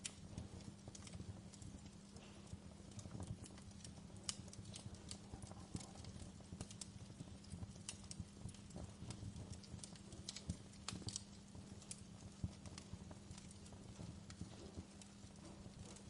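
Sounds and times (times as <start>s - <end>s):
faint steady hum: 0.0s - 16.0s
wood fire crackling: 0.0s - 16.0s.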